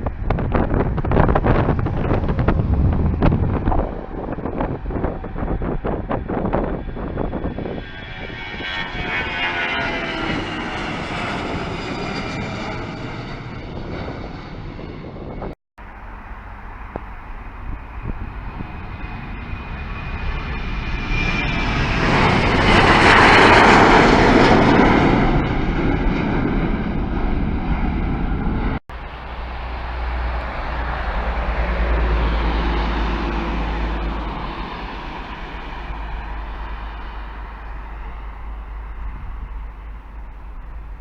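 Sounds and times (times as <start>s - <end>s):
airliner engines passing: 0.0s - 41.0s.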